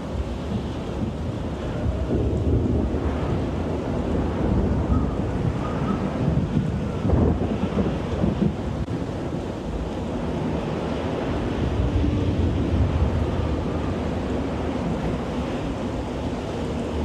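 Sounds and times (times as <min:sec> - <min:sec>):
steady low rumbling noise: 0:00.0 - 0:17.0.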